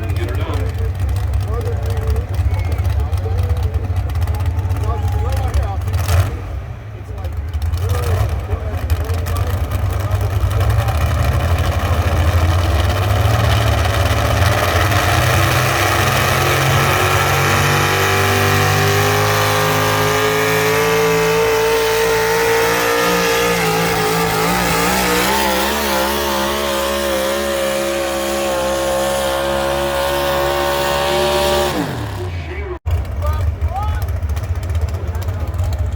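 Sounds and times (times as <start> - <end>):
tractor engine at full throttle: 0.0 - 35.9.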